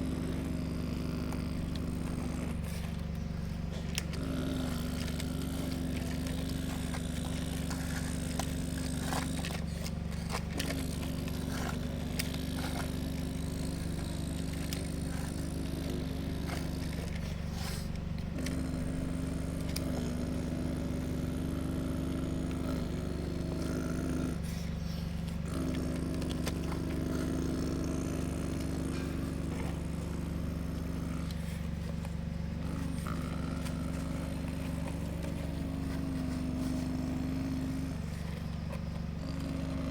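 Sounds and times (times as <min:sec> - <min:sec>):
excavator motor humming: 0:00.0 - 0:39.9.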